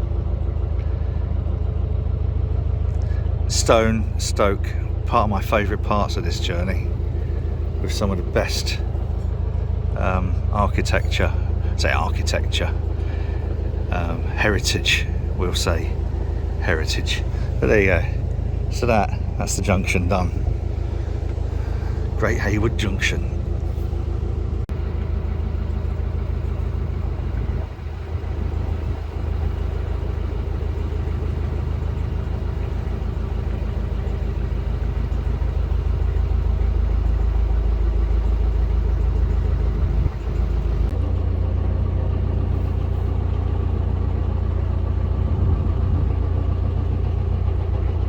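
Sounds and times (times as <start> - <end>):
boat diesel engine running: 0.0 - 48.0.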